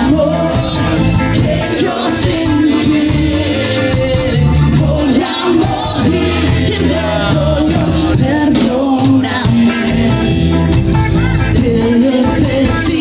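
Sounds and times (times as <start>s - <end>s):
woman singing into microphone: 0.0s - 10.5s, 11.3s - 13.0s
ska band playing live: 0.0s - 13.0s.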